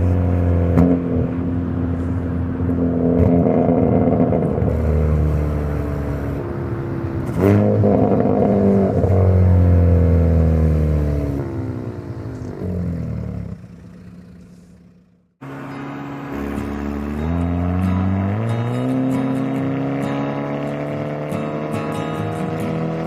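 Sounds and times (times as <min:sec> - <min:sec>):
car engine and exhaust accelerating: 0:00.0 - 0:23.0.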